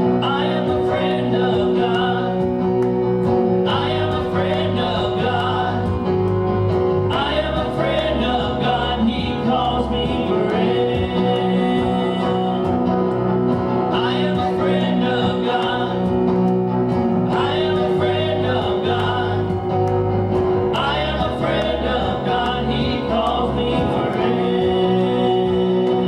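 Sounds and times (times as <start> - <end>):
person singing gospel: 0.0 - 26.0.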